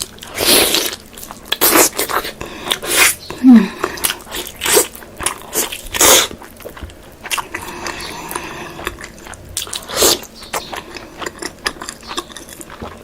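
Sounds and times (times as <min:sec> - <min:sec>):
person biting and chewing: 0:00.0 - 0:13.0.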